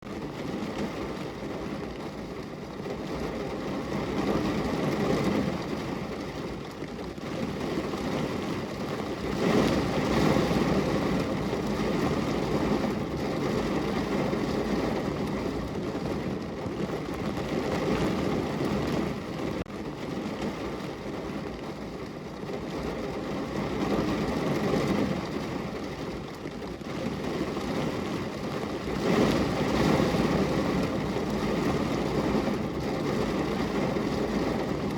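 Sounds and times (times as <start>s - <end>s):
rain on a car window: 0.0s - 34.9s.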